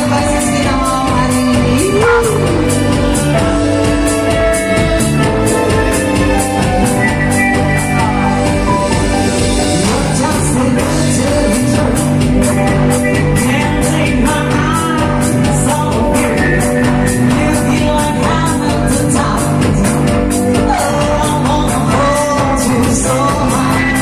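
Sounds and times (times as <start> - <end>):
live band playing pop song: 0.0 - 24.0
person singing: 0.0 - 24.0.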